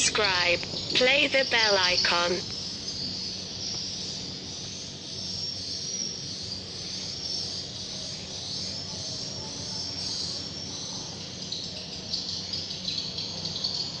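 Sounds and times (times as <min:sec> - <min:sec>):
high-pitched chirring: 0:00.0 - 0:14.0
low hum: 0:00.0 - 0:14.0.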